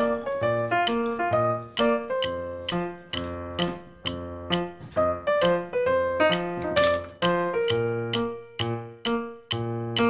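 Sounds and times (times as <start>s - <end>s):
light instrumental melody: 0.0s - 10.0s.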